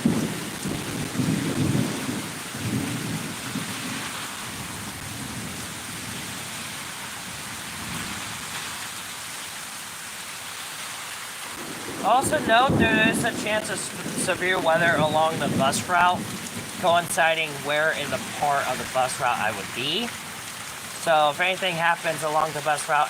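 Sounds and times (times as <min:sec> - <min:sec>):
thunder rumbling: 0:00.0 - 0:08.4, 0:11.4 - 0:22.8
rain hissing: 0:00.0 - 0:23.0.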